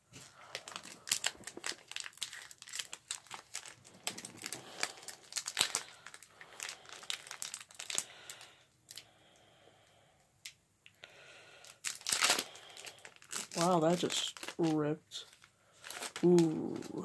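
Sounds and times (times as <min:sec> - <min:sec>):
foil wrapper crinkling and tearing: 0:00.2 - 0:09.1, 0:11.5 - 0:17.0.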